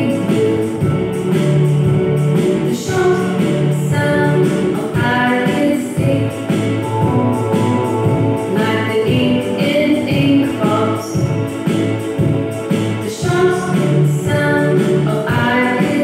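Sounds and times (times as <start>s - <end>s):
upbeat song over speakers: 0.0s - 16.0s.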